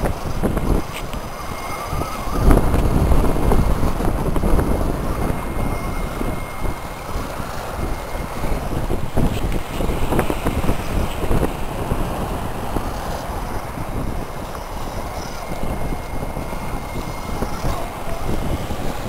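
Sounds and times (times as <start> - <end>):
electric motor whine: 0.0 - 19.0
wind rumbling on microphone: 0.0 - 19.0.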